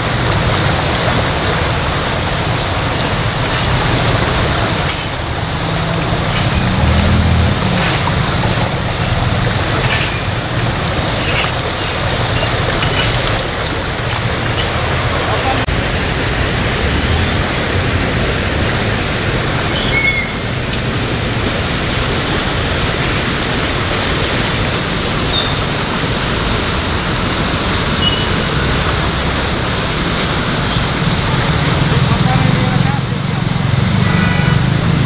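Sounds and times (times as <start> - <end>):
river rushing in flood: 0.0 - 35.0.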